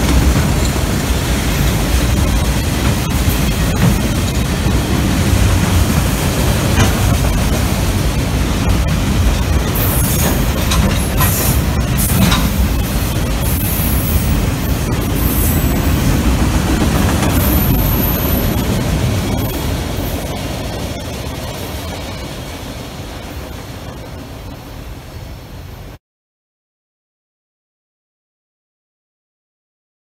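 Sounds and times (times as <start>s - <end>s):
train clanks: 0.0s - 25.4s
train wheels rumbling on rail: 0.0s - 26.0s.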